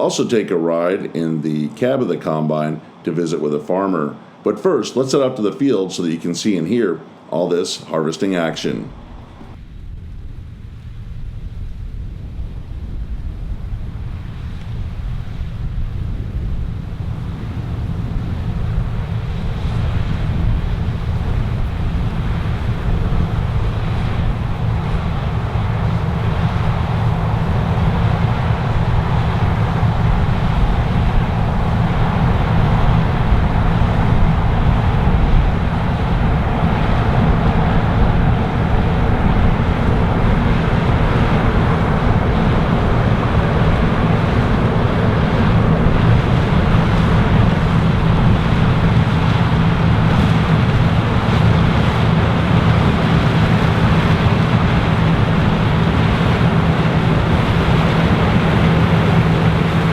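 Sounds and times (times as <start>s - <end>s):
combine harvester engine drone: 0.0s - 59.9s
even rushing noise: 0.0s - 59.9s.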